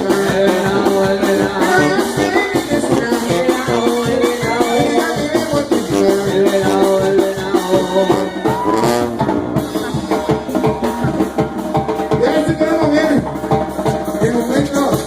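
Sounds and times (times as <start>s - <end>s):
latin dance music: 0.0s - 15.0s.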